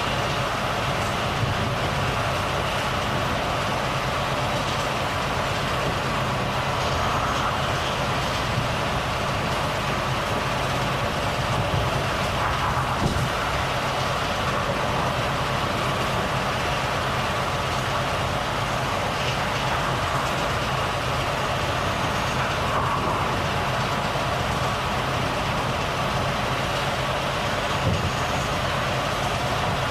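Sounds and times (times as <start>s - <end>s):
road and wind noise: 0.0s - 29.9s
truck engine hum: 0.0s - 29.9s.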